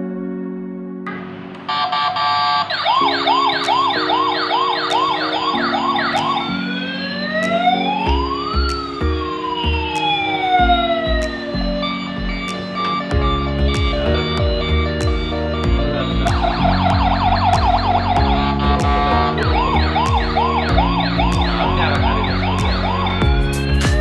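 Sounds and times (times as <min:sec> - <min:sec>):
toy police siren: 0:01.6 - 0:24.0
background music with beat: 0:02.7 - 0:24.0.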